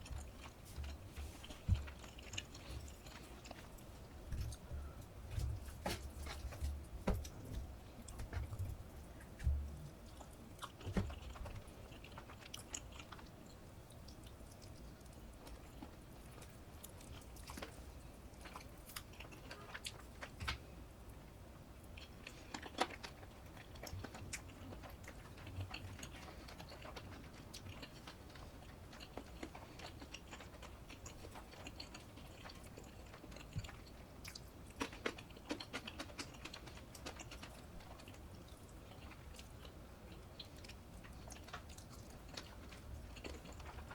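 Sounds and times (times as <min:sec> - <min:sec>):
person chewing: 0:00.0 - 0:20.6, 0:21.9 - 0:43.9
small sharp clicks and crunches: 0:00.0 - 0:20.8, 0:21.9 - 0:43.9.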